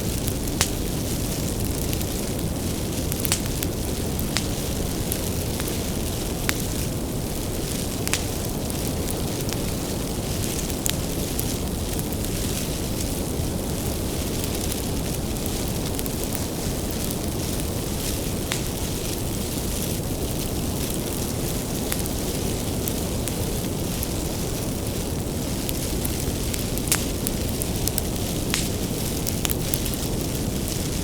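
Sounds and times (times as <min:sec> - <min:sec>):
firewood crackling and popping: 0:00.0 - 0:31.0
low rumble of flames: 0:00.0 - 0:31.0.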